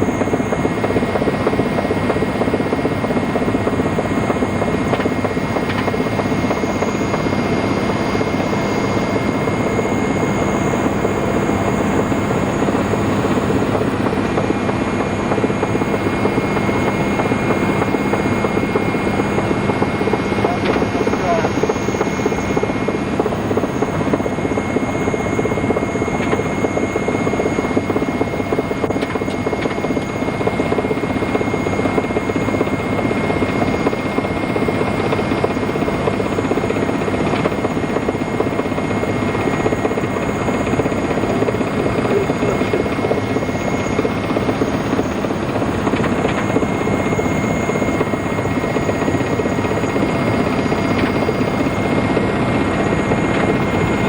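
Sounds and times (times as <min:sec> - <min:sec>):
helicopter turbine and rotor drone: 0:00.0 - 0:54.0.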